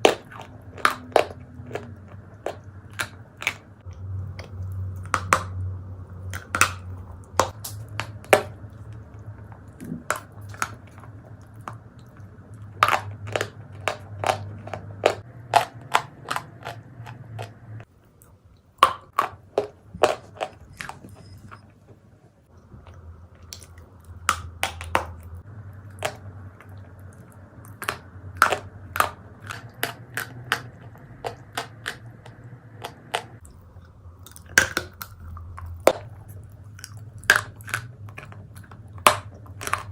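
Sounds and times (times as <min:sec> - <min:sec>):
clay being chewed with crunches: 0:00.0 - 0:39.9.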